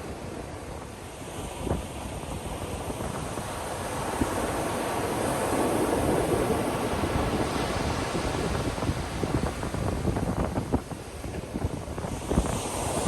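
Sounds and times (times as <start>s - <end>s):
ocean surf washing onto beach: 0.0s - 13.0s
wind buffeting microphone: 0.0s - 13.0s.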